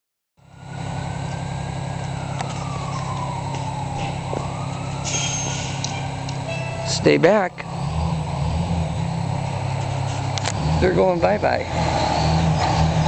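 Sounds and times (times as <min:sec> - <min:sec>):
distant siren wailing: 0:00.4 - 0:13.0
low engine rumble: 0:00.4 - 0:13.0.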